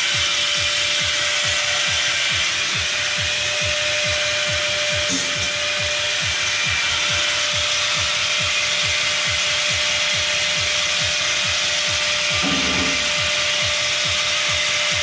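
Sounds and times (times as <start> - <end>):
music with bass beat: 0.0 - 15.0
power tool whining: 0.0 - 15.0.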